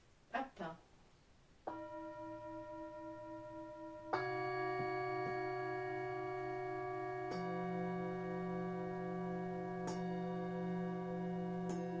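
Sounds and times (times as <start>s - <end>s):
singing bowls ringing: 1.7s - 12.0s.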